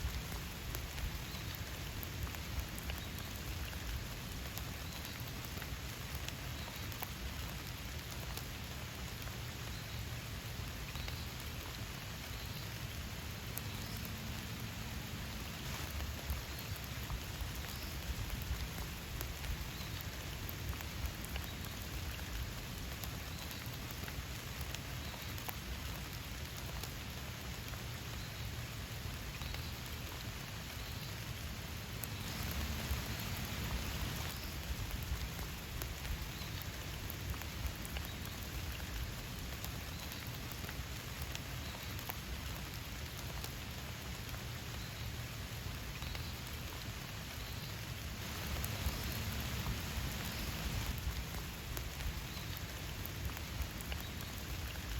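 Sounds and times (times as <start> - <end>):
raindrops tapping: 0.0 - 54.9
steady rain falling: 0.0 - 54.9.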